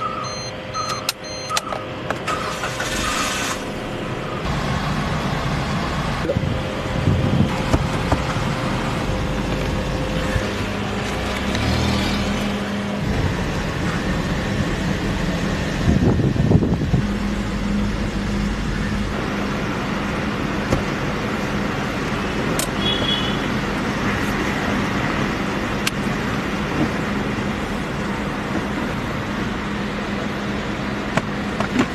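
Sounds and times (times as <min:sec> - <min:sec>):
car engine hum: 0:00.0 - 0:31.9
road and traffic noise: 0:00.0 - 0:31.9.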